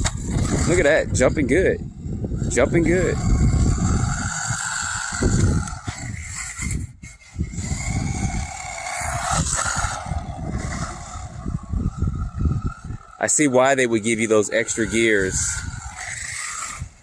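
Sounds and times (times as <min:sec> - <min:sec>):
low rumbling: 0:00.0 - 0:17.0
electric toy truck motor whining: 0:02.0 - 0:17.0.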